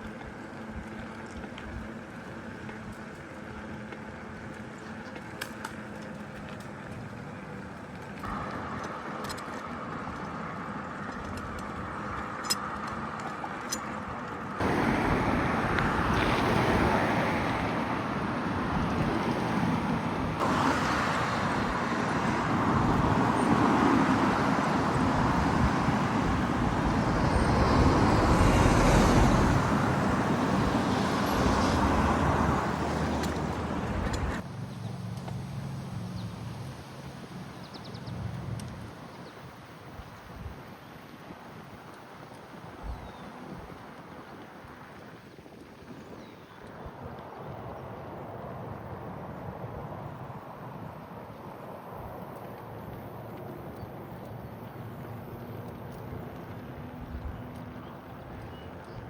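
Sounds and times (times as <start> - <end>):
road traffic noise: 0.0 - 39.9, 46.6 - 59.0.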